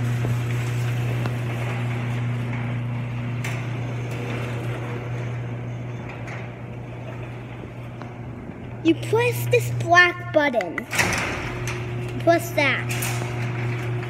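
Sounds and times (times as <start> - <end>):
garage door motor hum: 0.0 - 14.0.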